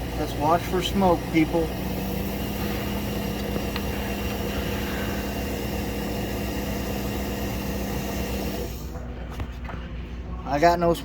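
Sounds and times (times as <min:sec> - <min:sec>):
smoke machine humming: 0:00.0 - 0:09.5.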